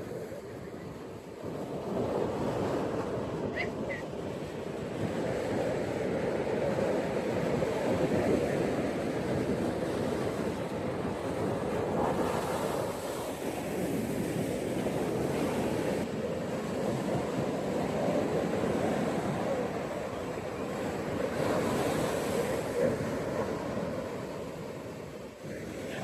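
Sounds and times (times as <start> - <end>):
ocean surf washing ashore: 0.0 - 26.0.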